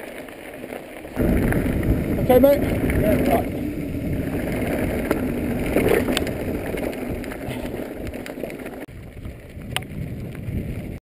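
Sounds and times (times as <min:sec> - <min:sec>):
bike rattles and knocks: 0:00.0 - 0:11.0
bike tyres rumbling over stones: 0:00.0 - 0:11.0
wind on microphone: 0:01.2 - 0:11.0.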